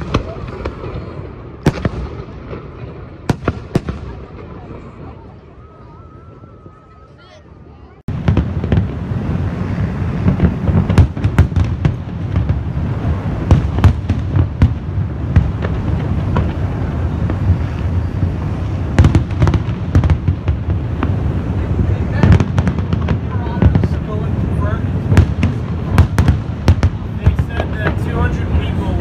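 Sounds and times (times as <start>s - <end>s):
firework bangs and crackles: 0.0s - 29.0s
low rumble of bursting fireworks: 0.0s - 29.0s.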